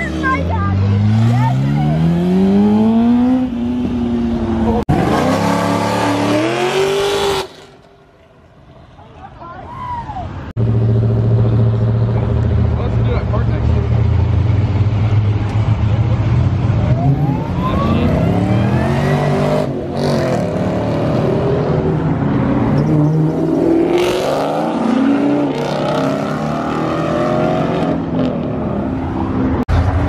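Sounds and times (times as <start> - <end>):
cars accelerating hard: 0.0 - 7.8, 10.6 - 30.0.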